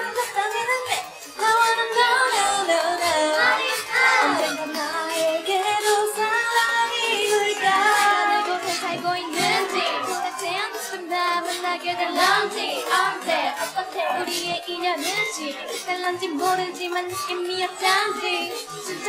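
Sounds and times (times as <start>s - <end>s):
women singing into microphones: 0.0s - 19.0s.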